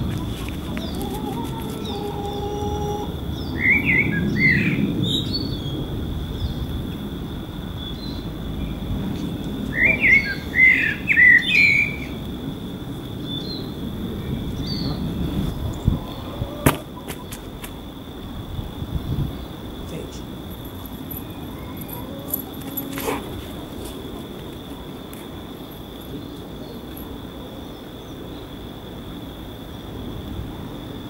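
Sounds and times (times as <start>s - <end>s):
small songbird chirping: 0.0s - 12.4s, 13.0s - 28.7s
low outdoor background: 0.0s - 31.0s.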